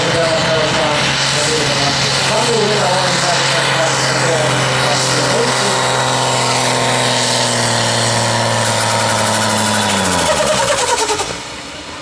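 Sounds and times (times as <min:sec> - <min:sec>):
tractor engine running loud: 0:00.0 - 0:12.0.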